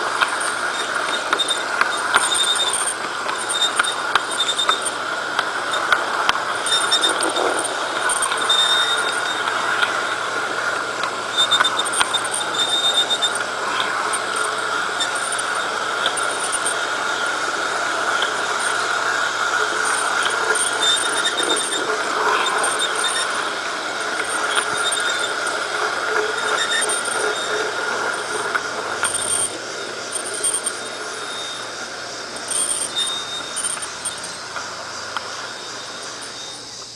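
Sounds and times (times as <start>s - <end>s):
model train wheels whining: 0.0s - 36.9s.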